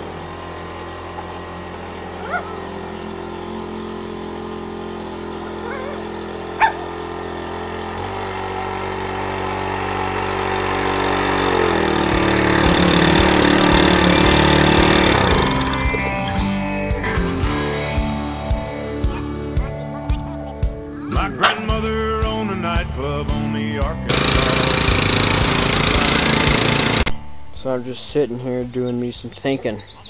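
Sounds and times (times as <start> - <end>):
tractor engine running: 0.0 - 27.3.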